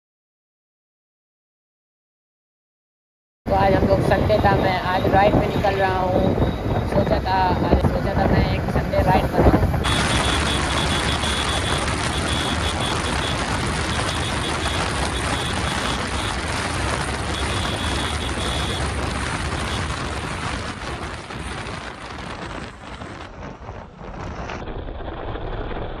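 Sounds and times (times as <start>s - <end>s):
motorcycle engine drone: 3.5s - 26.0s
wind rush on microphone: 3.5s - 26.0s.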